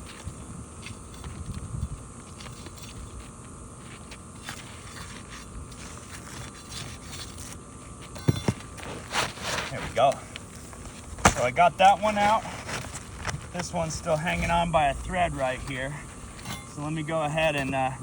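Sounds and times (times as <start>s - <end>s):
tool scraping nail and shingle: 0.0s - 17.9s.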